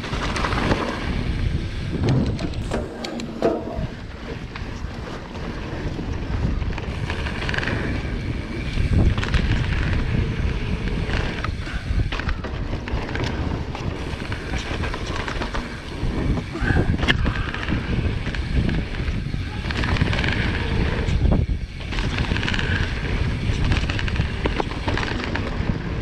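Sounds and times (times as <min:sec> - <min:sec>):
bike rattling: 0:00.0 - 0:26.0
bike tyres rolling on dirt: 0:00.0 - 0:26.0
wind buffeting microphone: 0:00.0 - 0:26.0.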